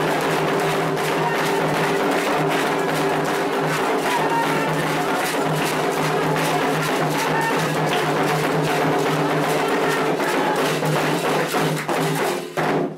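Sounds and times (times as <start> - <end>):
hand drums playing rhythm: 0.0 - 12.9.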